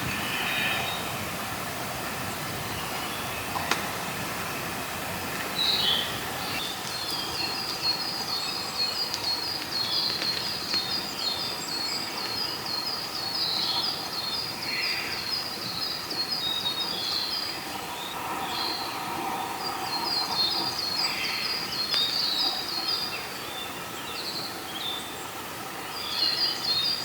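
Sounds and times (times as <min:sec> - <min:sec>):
outdoor background hiss: 0:00.0 - 0:27.0.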